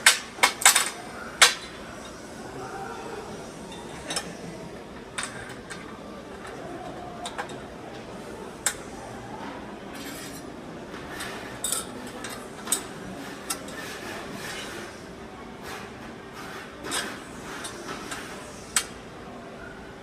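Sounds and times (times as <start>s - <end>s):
low workshop background: 0.0s - 20.0s.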